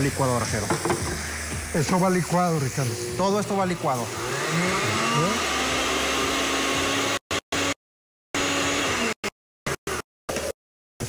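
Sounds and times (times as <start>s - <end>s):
blender whirring: 0.0s - 7.8s, 8.4s - 10.6s.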